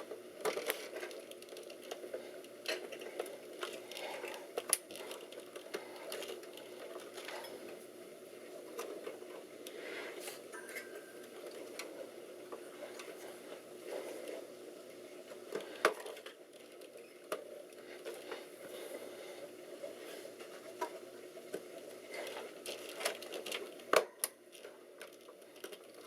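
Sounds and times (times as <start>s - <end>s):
steady computer hum: 0.0s - 26.0s.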